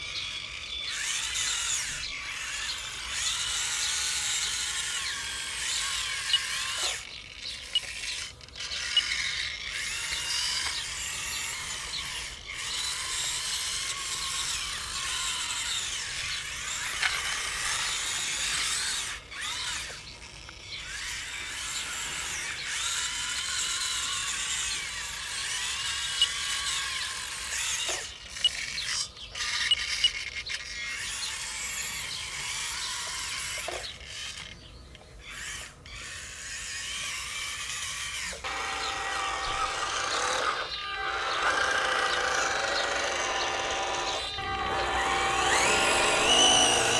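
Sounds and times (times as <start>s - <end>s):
small electric motors whining: 0.0s - 46.9s.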